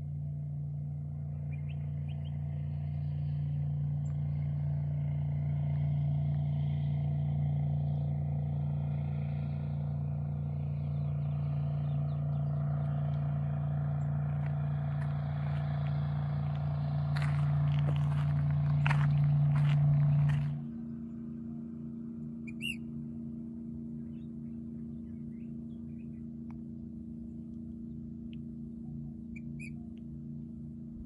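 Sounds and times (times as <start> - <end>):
distant engine drone: 0.0 - 31.0.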